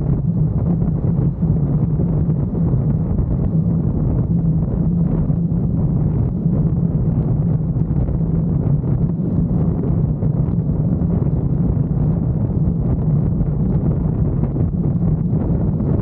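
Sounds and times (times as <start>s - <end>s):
car driving low rumble: 0.0s - 16.0s
wind buffeting microphone: 0.0s - 16.0s.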